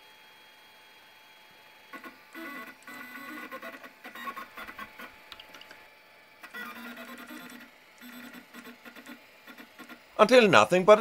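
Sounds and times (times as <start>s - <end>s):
stepper motor whine: 0.0s - 10.6s.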